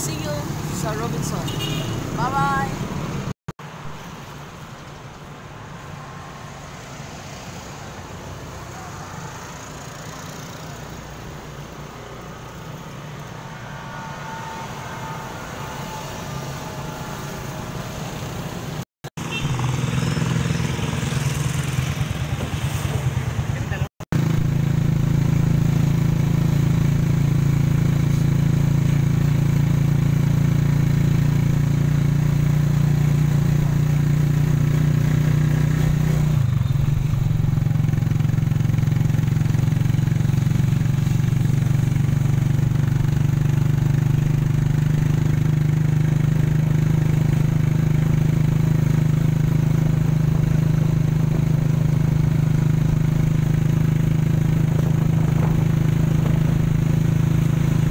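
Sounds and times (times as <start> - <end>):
road noise: 0.0 - 57.9
vehicle engine drone: 0.0 - 57.9.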